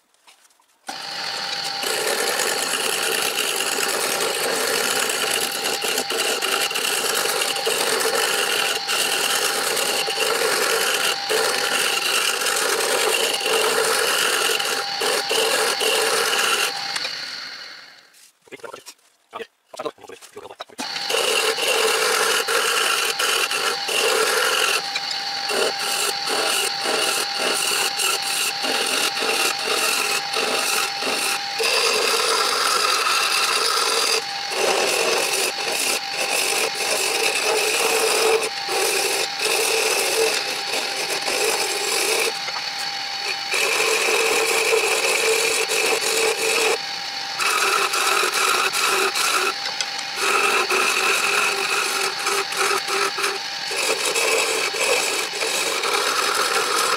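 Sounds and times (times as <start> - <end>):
chisel scraping wood: 0.9 - 17.3, 20.8 - 46.8, 47.4 - 56.9
lathe humming: 0.9 - 18.1, 20.8 - 56.9.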